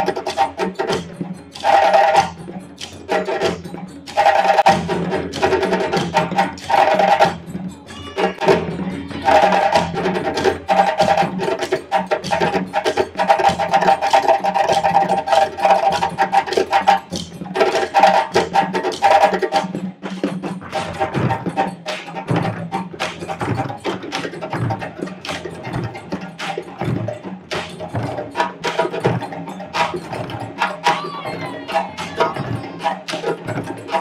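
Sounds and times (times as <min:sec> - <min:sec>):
djembe hand drums playing: 0:00.0 - 0:34.0.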